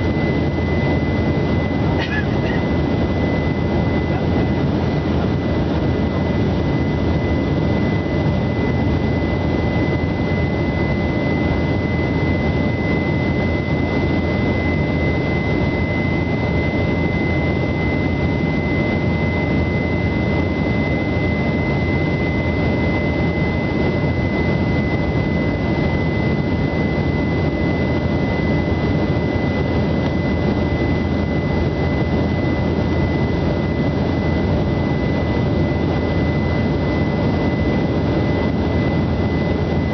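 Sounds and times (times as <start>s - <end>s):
aircraft cabin engine rush: 0.0s - 39.9s
high-pitched engine whine: 0.0s - 39.9s.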